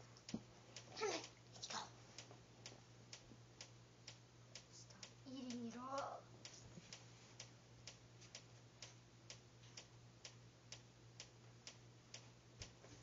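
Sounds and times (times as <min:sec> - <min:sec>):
faint ticking: 0:00.0 - 0:13.0
low steady hum: 0:00.0 - 0:13.0.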